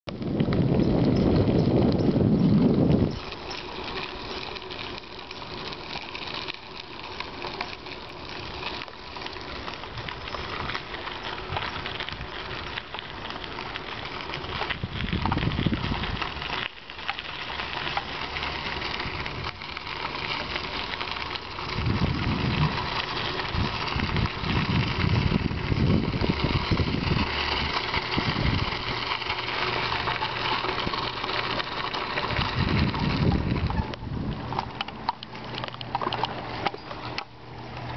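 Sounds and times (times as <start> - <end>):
wind buffeting microphone: 0.1 - 5.2, 9.7 - 16.6, 17.7 - 36.6
bicycle tyre noise: 0.1 - 37.9
bike rattling over rough path: 0.1 - 37.9.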